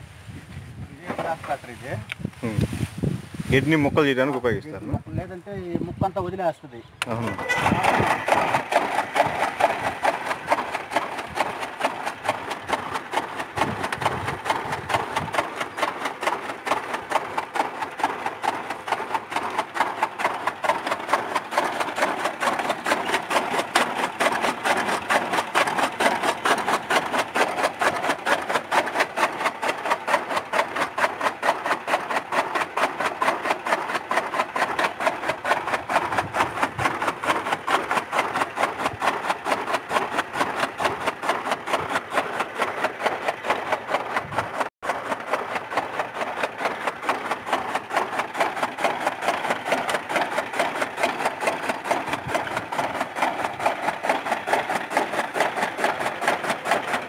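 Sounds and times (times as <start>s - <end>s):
blades chopping grass: 1.0s - 5.8s, 7.0s - 57.0s
electric motor running: 7.0s - 57.0s.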